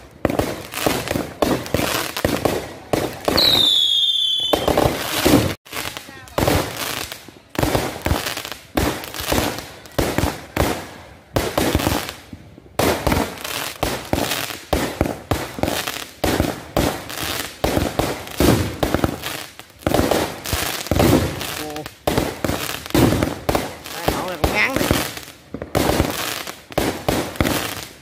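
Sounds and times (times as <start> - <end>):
fireworks bangs with crackling: 0.0 - 28.0.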